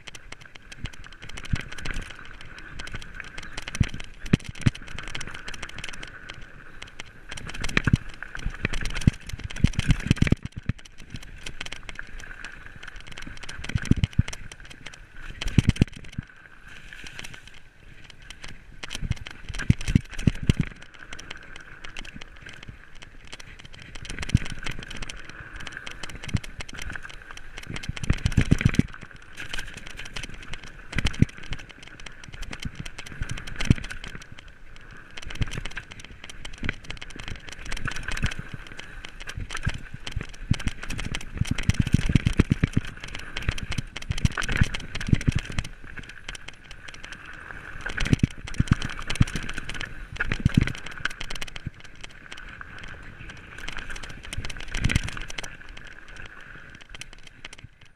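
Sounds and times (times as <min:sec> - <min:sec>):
bike rattling and clattering: 0:00.0 - 0:57.9.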